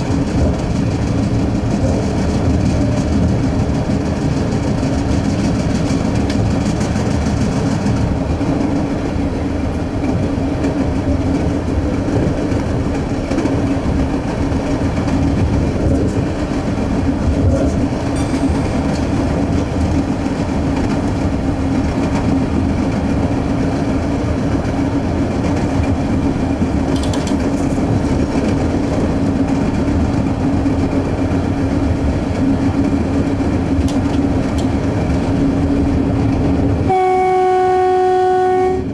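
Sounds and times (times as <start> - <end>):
diesel railcar engine drone: 0.0 - 38.9
wheels rumbling on rails: 0.0 - 38.9.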